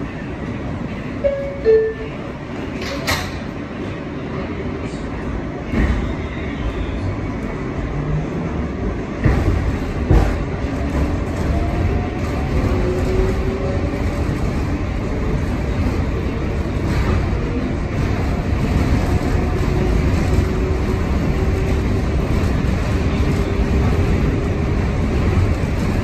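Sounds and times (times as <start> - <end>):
subway wheels rumbling on rail: 0.0 - 26.0.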